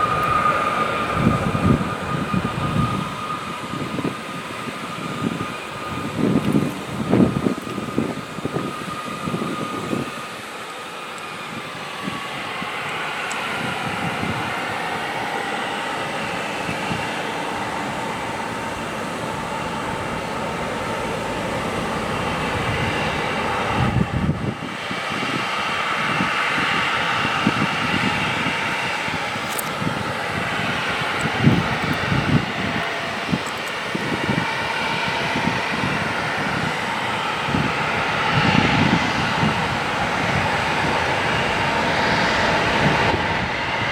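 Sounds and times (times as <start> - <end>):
wind buffeting microphone: 0.0 - 10.6, 11.2 - 43.9
jet engines roaring: 0.0 - 43.9.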